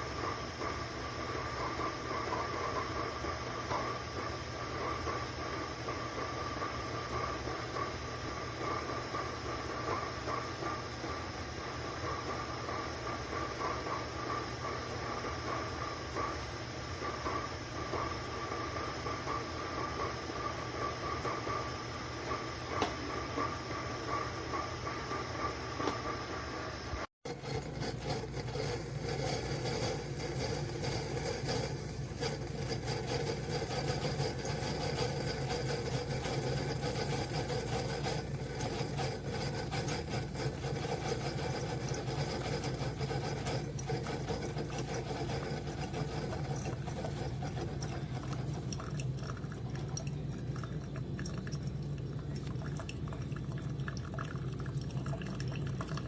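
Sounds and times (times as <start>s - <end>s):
coffee maker humming: 0.0s - 56.0s.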